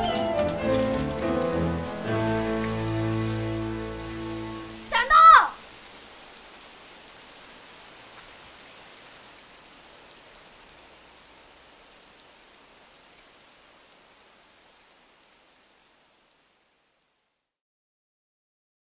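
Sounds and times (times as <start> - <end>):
steady rain falling: 0.0 - 17.6.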